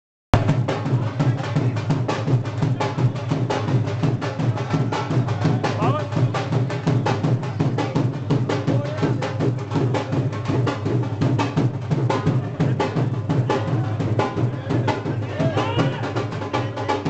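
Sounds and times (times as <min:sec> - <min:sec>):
loud music with fast drum beat: 0:00.4 - 0:17.0.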